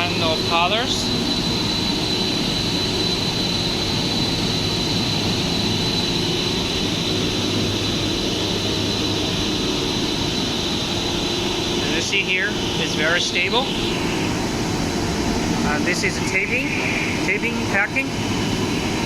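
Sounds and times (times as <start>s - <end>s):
machinery droning with high whine: 0.0s - 19.0s.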